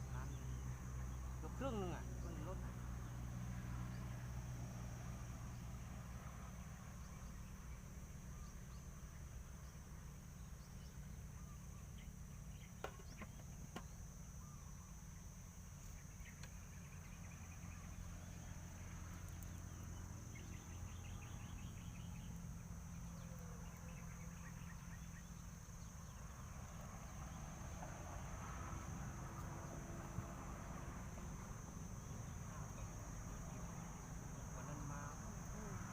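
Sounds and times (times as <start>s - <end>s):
faint bird chirps and trills: 0.0s - 35.9s
high insect drone: 0.0s - 35.9s.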